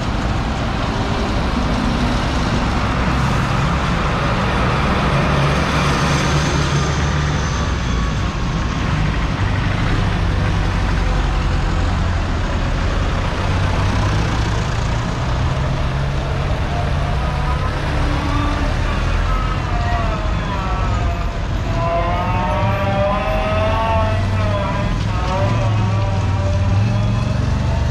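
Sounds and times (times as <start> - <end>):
diesel engines driving past: 0.0 - 27.9.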